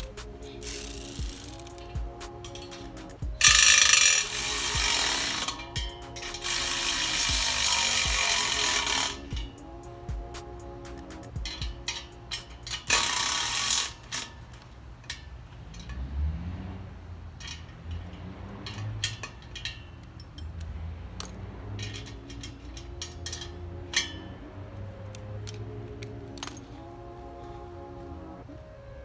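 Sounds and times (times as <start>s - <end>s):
ratchet clicks: 0.0s - 16.1s, 17.3s - 24.3s, 25.4s - 26.8s
tools and metal parts clinking: 0.0s - 28.0s.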